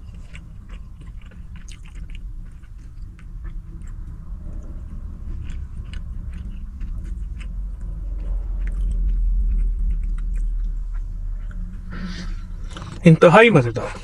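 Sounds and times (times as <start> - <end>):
person chewing: 0.0 - 13.1
low rumble: 0.0 - 14.0.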